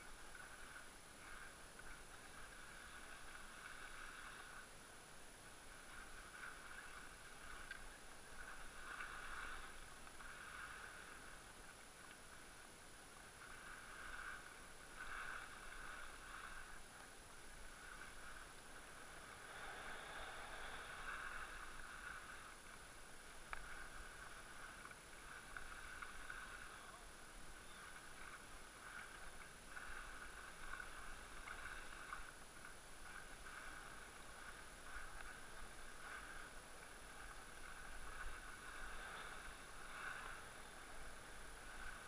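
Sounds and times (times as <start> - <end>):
skis scraping over snow: 0.0 - 42.0.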